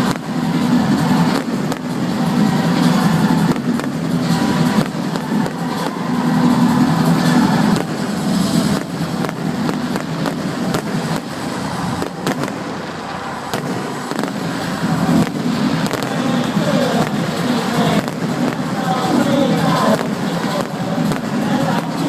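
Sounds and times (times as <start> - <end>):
fireworks bangs and crackles: 0.0 - 22.0
steady low din: 0.0 - 22.0.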